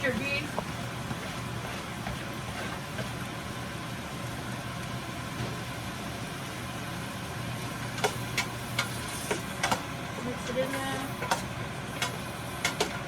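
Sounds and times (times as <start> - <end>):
meat and vegetables sizzling: 0.0 - 13.0.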